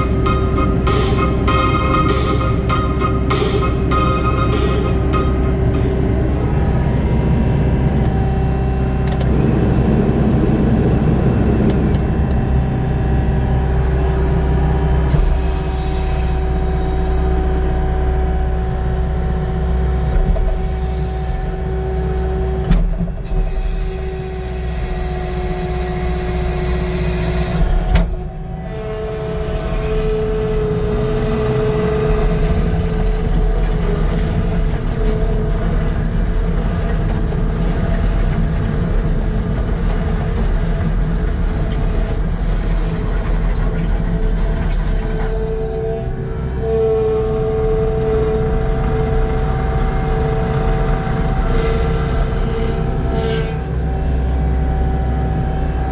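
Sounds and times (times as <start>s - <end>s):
diesel engine running: 0.0s - 55.9s
hydraulic whine: 0.0s - 55.9s.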